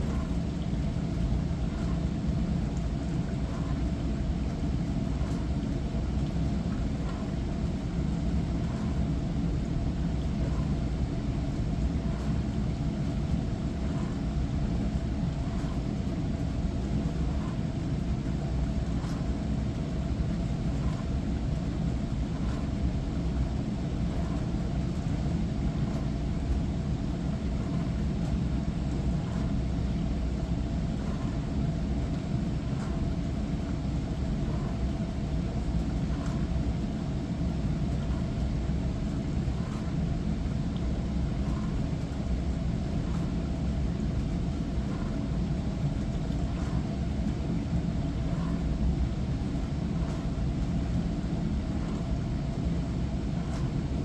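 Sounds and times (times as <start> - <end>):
constant hum: 0.0 - 54.0.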